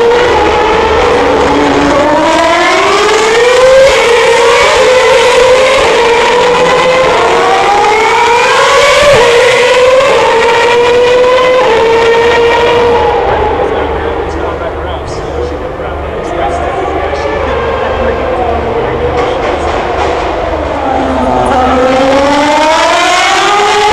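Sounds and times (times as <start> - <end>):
race car engines accelerating past: 0.0 - 23.9.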